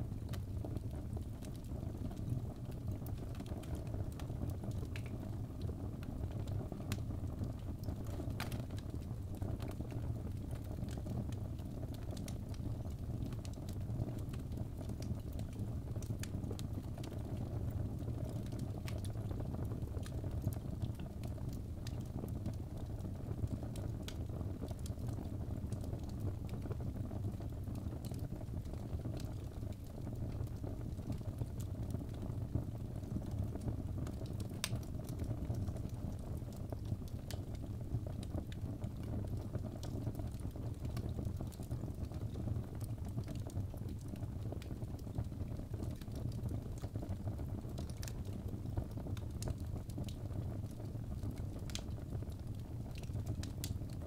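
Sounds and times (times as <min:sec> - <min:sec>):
fire flames burning: 0:00.0 - 0:54.0
logs crackling and popping: 0:00.1 - 0:54.0.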